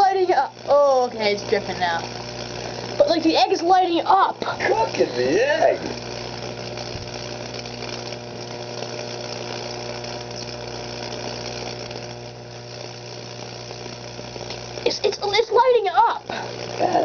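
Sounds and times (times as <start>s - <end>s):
electric arcs buzzing and crackling: 0.0s - 17.0s
electrical hum: 0.0s - 17.0s.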